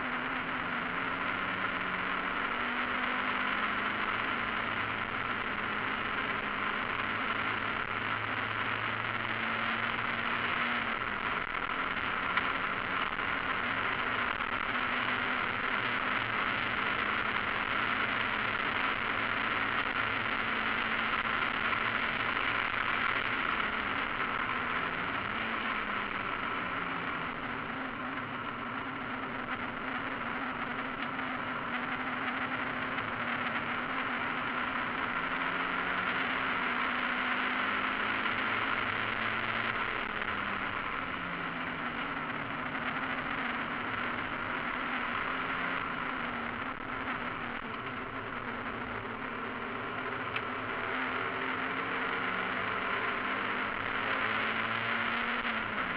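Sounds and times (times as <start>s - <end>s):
race car engine: 0.0s - 55.9s
wind and road noise: 0.0s - 55.9s.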